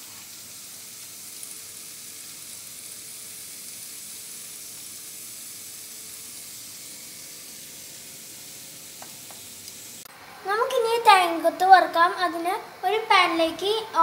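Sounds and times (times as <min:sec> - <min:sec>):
boiling water hiss: 0:00.0 - 0:14.0.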